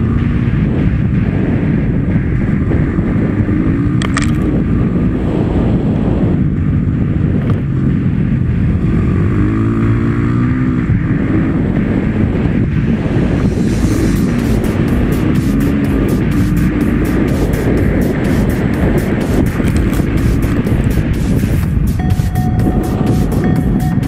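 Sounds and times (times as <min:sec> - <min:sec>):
dirt bike engine revving: 0:00.0 - 0:24.0
wind buffeting microphone: 0:00.0 - 0:24.0.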